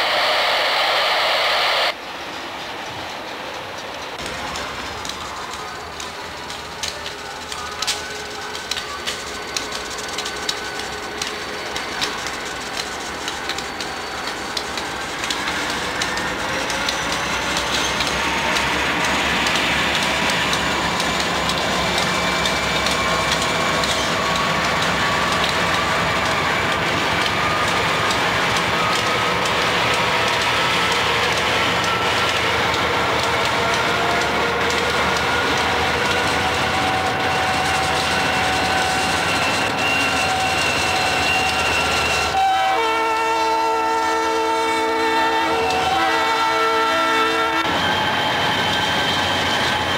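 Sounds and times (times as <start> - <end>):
diesel locomotive engines: 0.0 - 49.9
wheels clicking over rail joints: 2.4 - 42.4.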